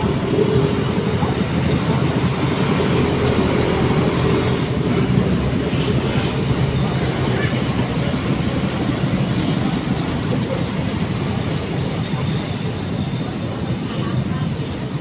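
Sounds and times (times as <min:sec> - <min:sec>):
large vehicle engine rumbling: 0:00.0 - 0:15.0.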